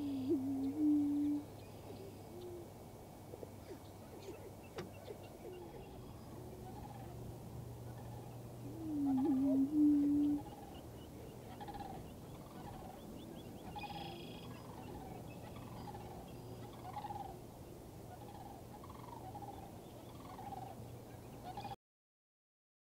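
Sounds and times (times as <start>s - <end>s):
prairie chickens cackling calls: 0.0s - 2.7s, 3.3s - 21.8s.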